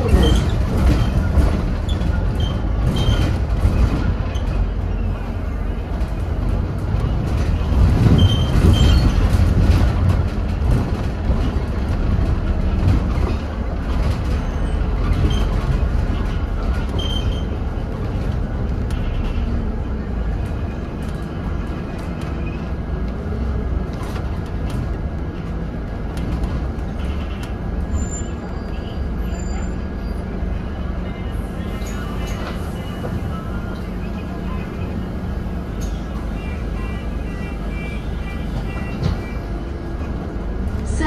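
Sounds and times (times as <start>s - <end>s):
bus engine and tyres rumbling: 0.0s - 41.0s.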